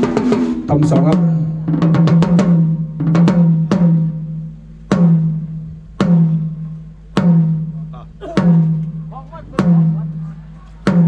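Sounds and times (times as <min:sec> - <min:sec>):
tom drum hits: 0:00.0 - 0:06.6, 0:07.2 - 0:10.1.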